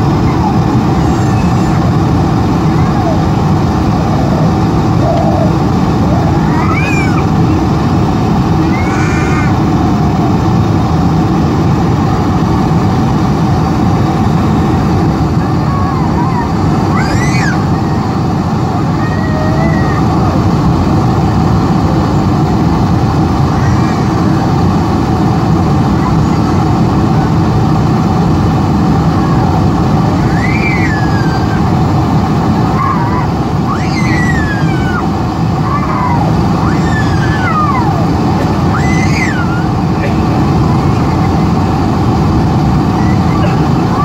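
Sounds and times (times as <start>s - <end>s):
aircraft cabin engine noise: 0.0s - 44.0s
airflow over flaps: 0.0s - 44.0s.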